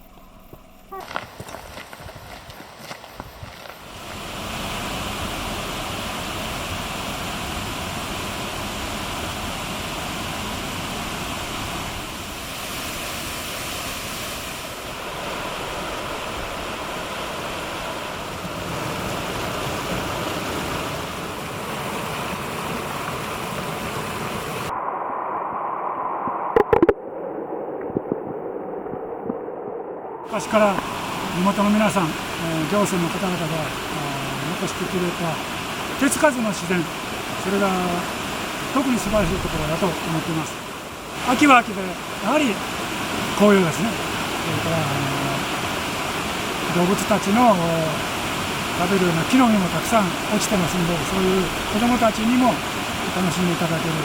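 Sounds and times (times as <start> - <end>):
stream running over rocks: 0.0 - 24.7, 30.2 - 54.0.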